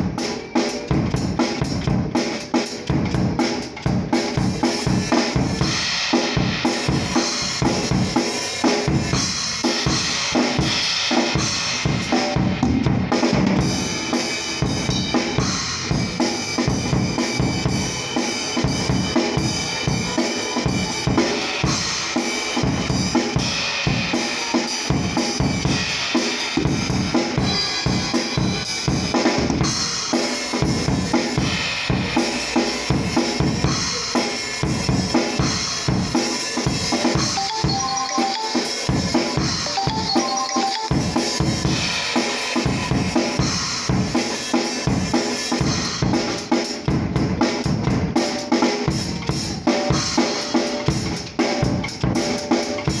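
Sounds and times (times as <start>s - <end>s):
drum kit playing a groove: 0.0s - 53.0s.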